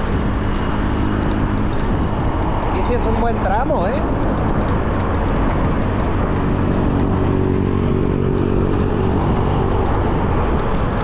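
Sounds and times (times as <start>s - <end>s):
even rushing noise: 0.0s - 11.0s
vehicle engine hum: 0.0s - 11.0s.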